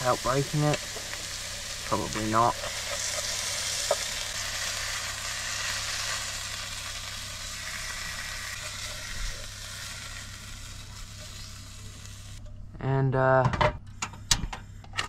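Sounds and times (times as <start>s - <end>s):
hot oil sizzling: 0.0s - 12.4s.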